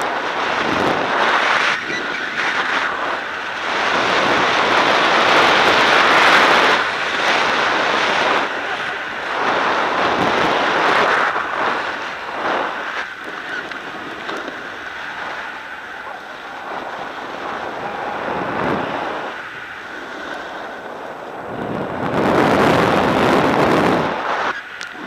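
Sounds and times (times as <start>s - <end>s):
board scraping over snow: 0.0s - 25.0s
wind buffeting microphone: 0.0s - 25.0s.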